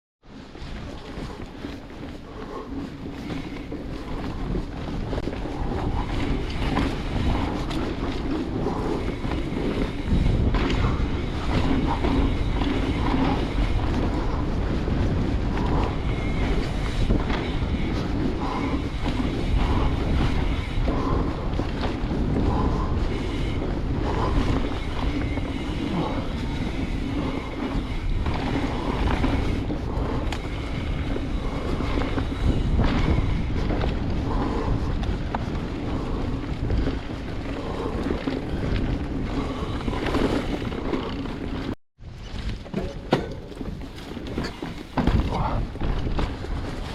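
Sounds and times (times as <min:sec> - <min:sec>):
tyre and trail noise: 0:00.2 - 0:46.9
wind buffeting microphone: 0:00.2 - 0:46.9
bike knocks and rattles: 0:02.8 - 0:46.9.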